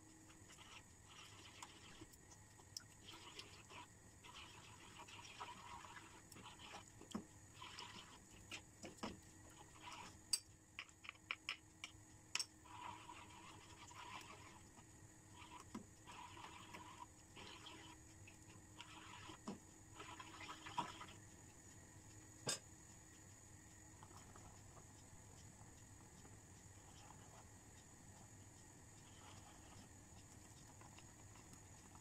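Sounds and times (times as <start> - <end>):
spatula stirring thick sauce: 0.3 - 10.2, 12.6 - 21.3, 24.0 - 32.0.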